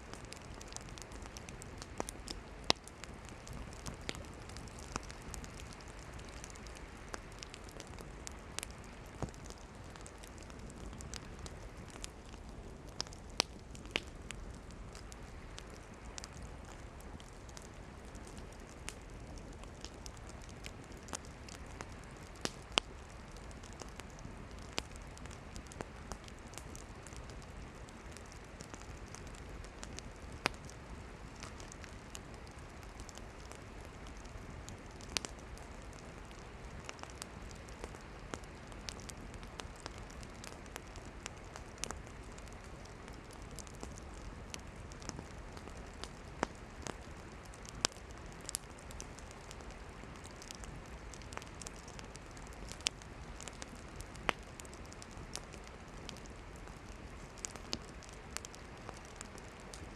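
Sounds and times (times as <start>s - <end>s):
campfire flames hissing: 0.0s - 59.9s
firewood crackling and popping: 0.0s - 59.9s.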